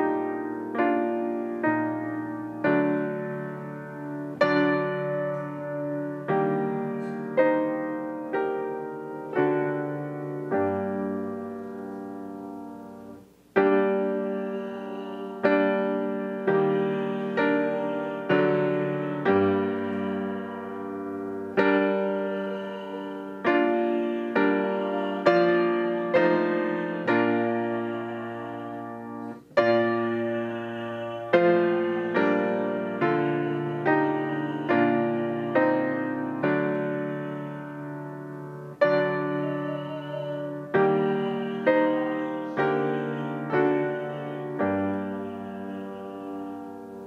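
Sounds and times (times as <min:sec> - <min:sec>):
piano playing a slow hymn: 0:00.0 - 0:47.0.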